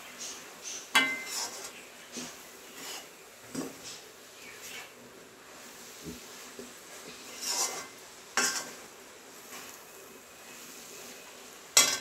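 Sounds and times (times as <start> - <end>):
low sizzle: 0.0 - 12.0
spoon scraping in a pan: 0.2 - 12.0.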